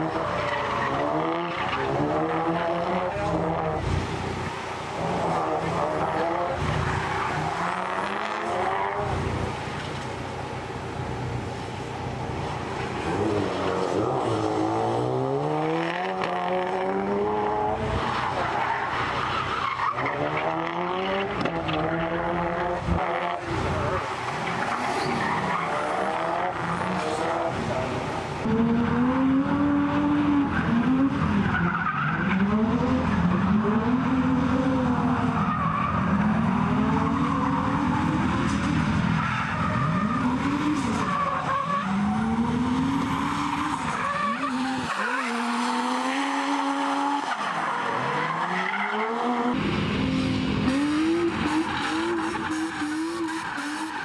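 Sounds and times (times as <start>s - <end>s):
car engines revving: 0.0s - 54.0s
tyres skidding: 0.0s - 54.0s.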